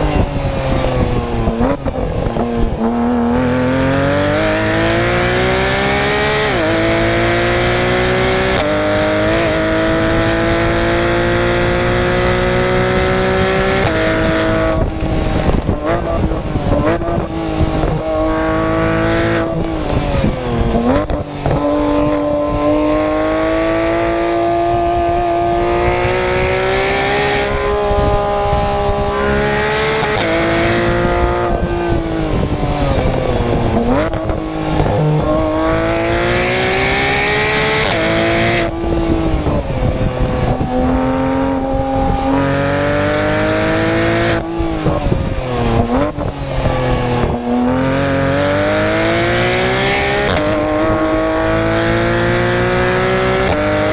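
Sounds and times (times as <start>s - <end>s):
sports car exhaust revving: 0.0s - 53.9s.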